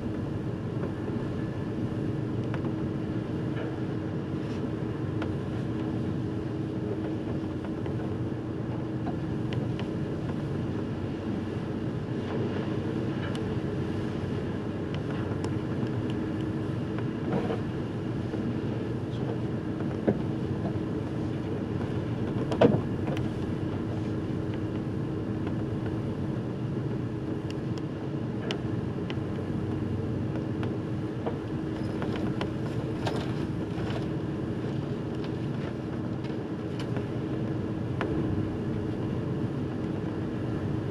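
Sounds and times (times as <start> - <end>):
wind: 0.0 - 40.9.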